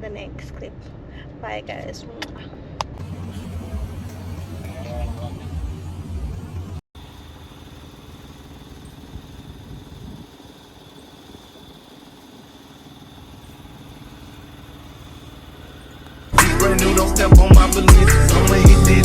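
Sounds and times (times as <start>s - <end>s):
traffic rumble: 2.9s - 19.0s.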